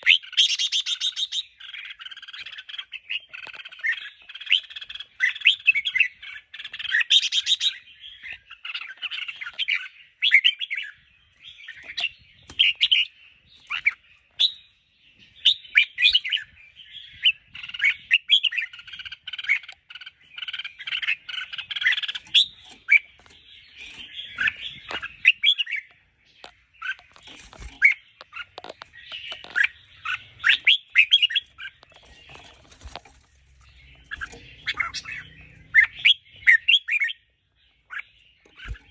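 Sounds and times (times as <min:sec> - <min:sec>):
birds singing warbling phrases: 0:00.0 - 0:38.9.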